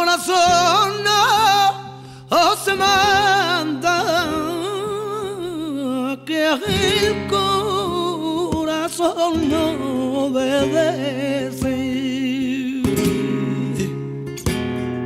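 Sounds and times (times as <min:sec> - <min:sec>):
person singing: 0:00.0 - 0:14.2
acoustic guitar: 0:00.0 - 0:15.0.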